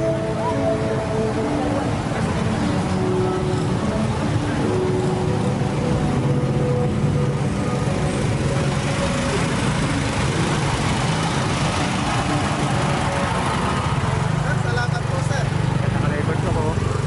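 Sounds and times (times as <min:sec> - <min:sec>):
portable generator engine running: 0:00.0 - 0:17.0.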